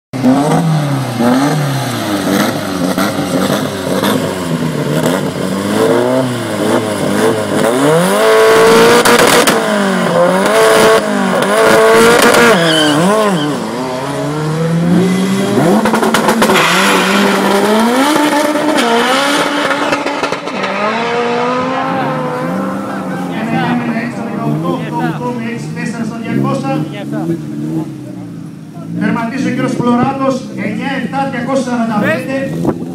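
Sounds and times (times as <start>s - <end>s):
car accelerating with gear changes: 0.2s - 30.2s
car engine revving hard: 0.2s - 32.9s
engine crackling: 0.2s - 32.9s.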